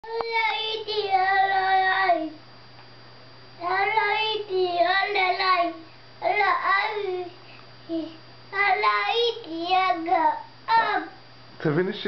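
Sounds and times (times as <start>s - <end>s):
toddler singing: 0.0s - 2.4s, 3.6s - 11.2s.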